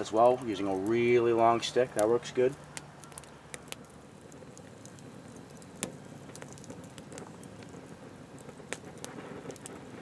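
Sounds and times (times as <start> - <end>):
campfire crackling: 0.0 - 10.0
fire pop: 0.0 - 10.0.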